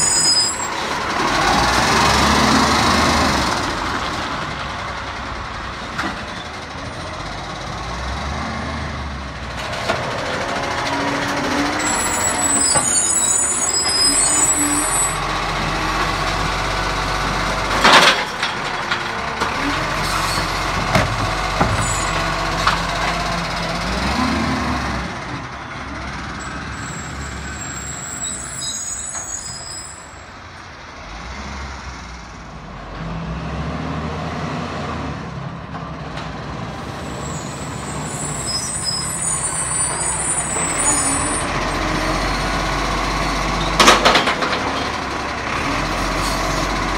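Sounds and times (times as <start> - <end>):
garbage truck engine running: 0.0 - 28.5, 35.4 - 46.9.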